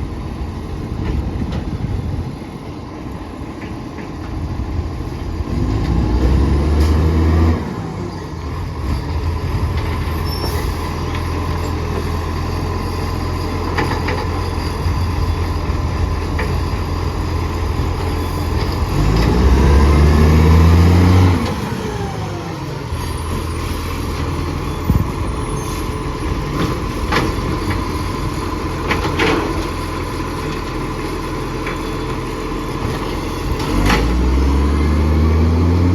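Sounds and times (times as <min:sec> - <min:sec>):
diesel truck engine revving: 0:04.7 - 0:13.8, 0:14.8 - 0:35.9.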